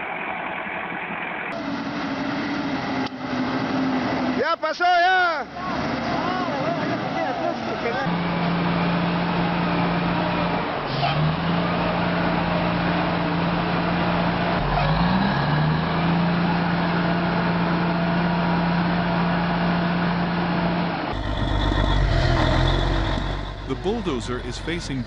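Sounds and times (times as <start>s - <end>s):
heavy vehicle engine droning: 0.0s - 25.0s.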